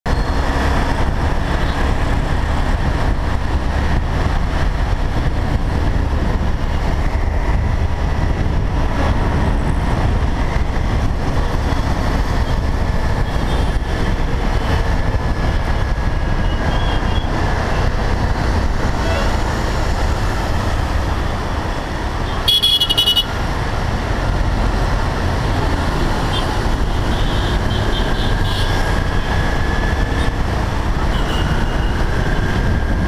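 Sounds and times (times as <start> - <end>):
wind noise: 0.1 - 33.0.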